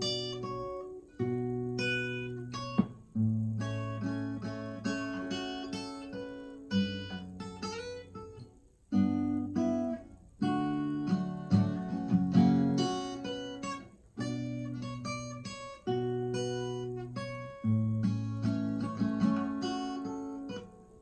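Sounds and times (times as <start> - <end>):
acoustic guitar plucking: 0.0 - 21.0.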